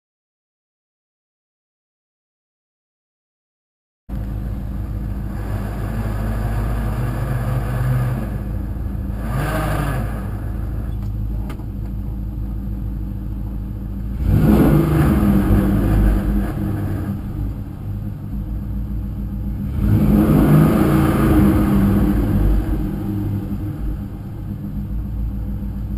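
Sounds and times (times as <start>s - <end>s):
car engine revving: 4.1s - 25.9s.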